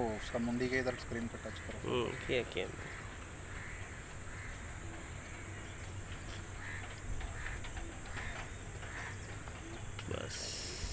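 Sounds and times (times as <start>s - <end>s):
high insect hum: 0.0s - 10.9s
faint bird calls: 0.1s - 10.9s.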